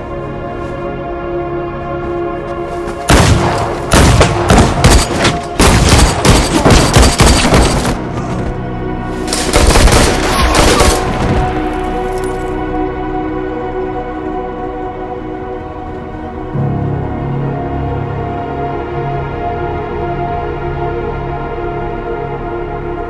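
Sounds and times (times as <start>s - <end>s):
film music score: 0.0s - 23.0s.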